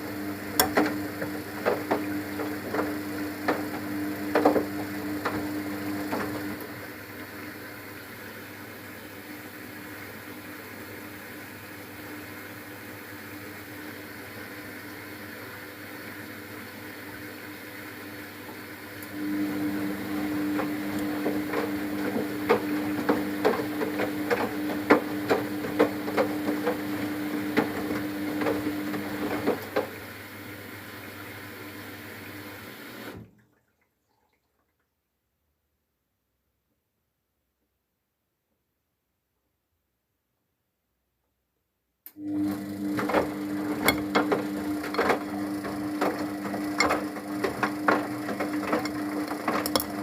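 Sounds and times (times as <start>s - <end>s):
washing machine motor humming: 0.0s - 33.4s, 42.1s - 50.0s
water running: 0.0s - 35.0s, 42.2s - 50.0s.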